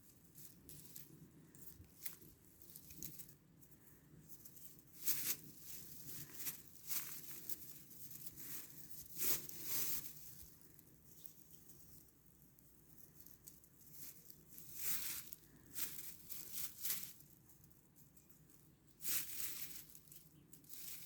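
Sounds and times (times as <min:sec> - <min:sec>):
soft rustling and crackling: 0:00.0 - 0:21.0.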